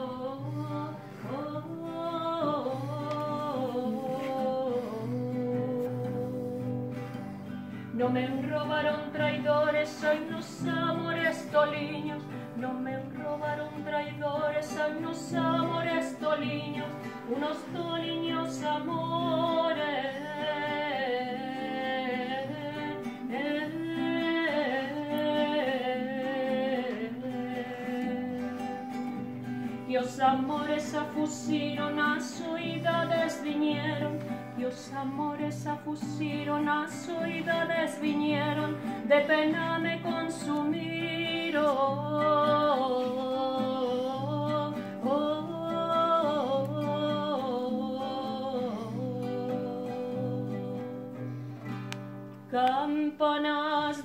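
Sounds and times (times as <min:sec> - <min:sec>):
acoustic guitar: 0:00.0 - 0:54.0
woman singing: 0:00.0 - 0:54.0.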